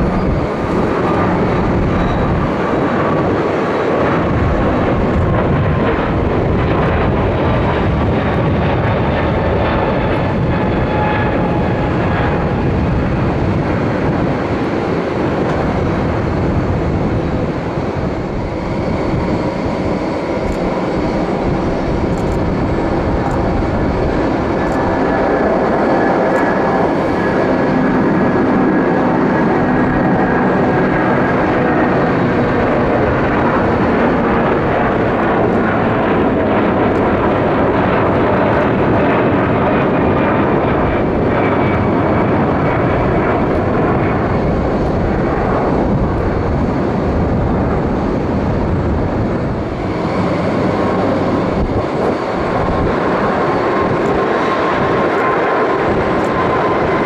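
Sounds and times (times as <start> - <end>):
jet airliner engines: 0.0 - 57.0.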